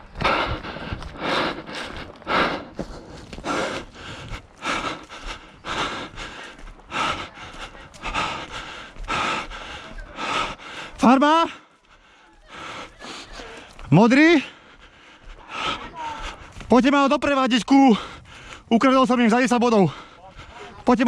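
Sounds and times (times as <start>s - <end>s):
person breathing hard: 0.0s - 16.7s, 17.9s - 18.7s, 19.8s - 20.8s.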